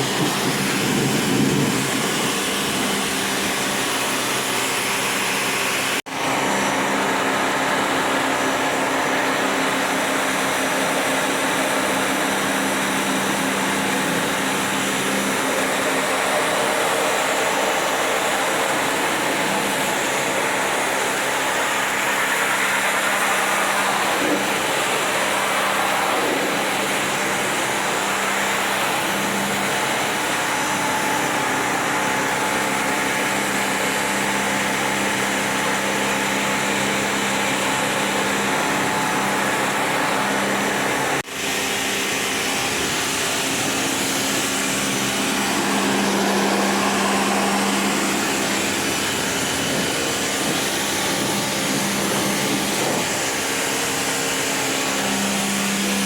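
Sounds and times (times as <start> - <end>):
pressure washer pump running: 0.0 - 56.0
water jet spraying: 0.0 - 56.0.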